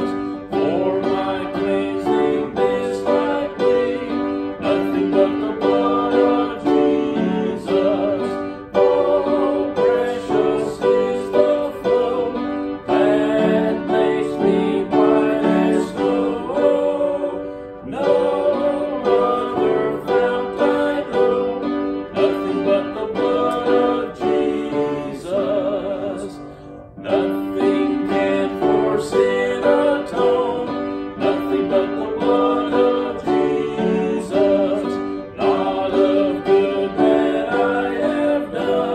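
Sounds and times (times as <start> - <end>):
hymn on piano and guitar: 0.0 - 38.9.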